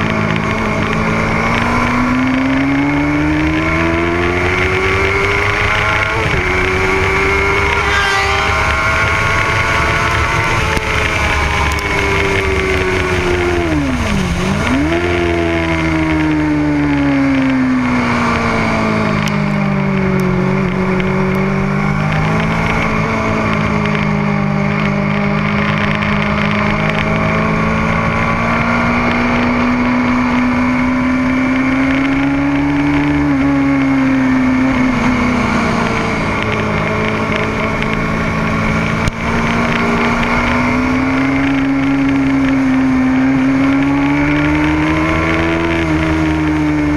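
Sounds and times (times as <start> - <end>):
motorcycle engine running hard: 0.0 - 46.9
steady rushing noise: 0.0 - 46.9.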